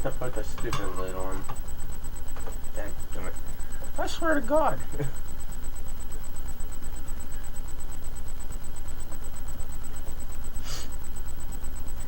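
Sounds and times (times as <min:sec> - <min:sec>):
faint high whine: 0:00.0 - 0:12.0
steady low hum: 0:00.0 - 0:12.0.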